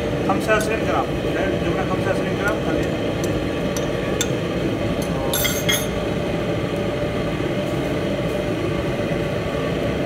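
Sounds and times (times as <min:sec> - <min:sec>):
stove low rumble: 0:00.0 - 0:10.0.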